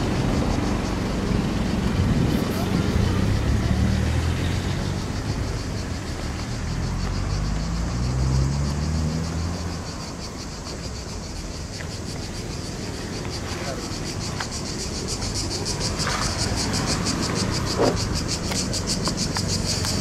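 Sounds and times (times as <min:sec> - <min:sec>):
car passing: 0:00.0 - 0:20.0
cicadas buzzing: 0:00.0 - 0:20.0.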